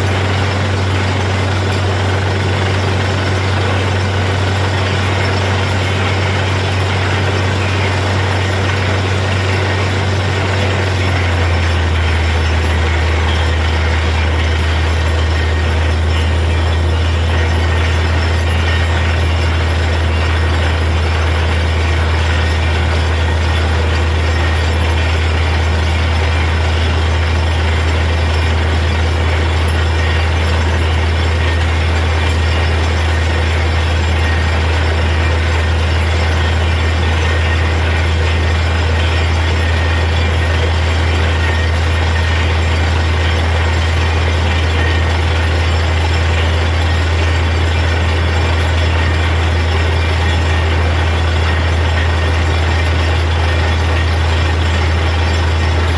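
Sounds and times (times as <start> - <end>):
drilling rig running: 0.0 - 55.9.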